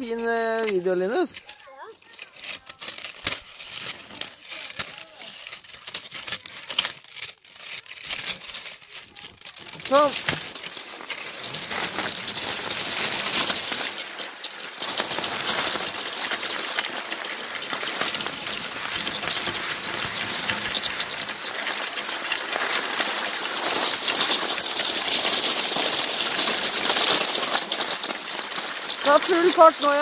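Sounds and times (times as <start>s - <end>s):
skis scraping over snow: 0.0s - 30.0s.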